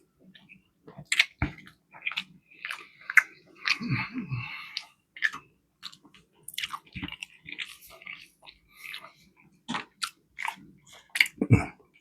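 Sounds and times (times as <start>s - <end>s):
chewing with mouth clicks: 0.2s - 12.0s.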